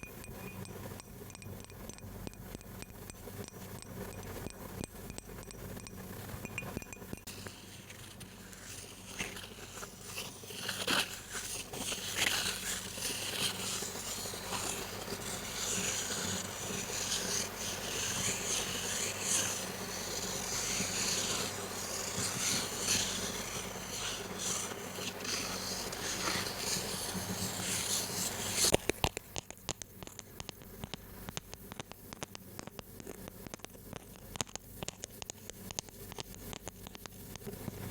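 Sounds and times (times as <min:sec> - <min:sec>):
crackling and scratching clicks: 0:00.0 - 0:37.9.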